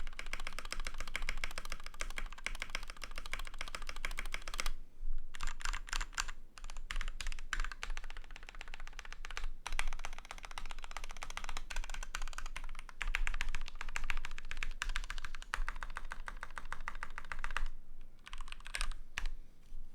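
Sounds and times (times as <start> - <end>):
mechanical keyboard typing: 0.0 - 4.8, 5.4 - 19.3.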